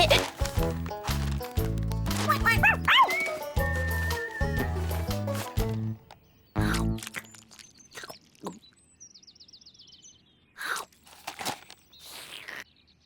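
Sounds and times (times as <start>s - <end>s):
crunching and clicking noises: 0.0s - 8.8s, 10.6s - 12.6s.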